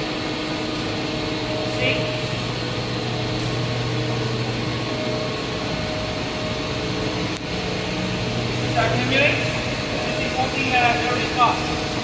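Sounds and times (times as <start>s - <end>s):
machine drone with hum: 0.0s - 12.0s.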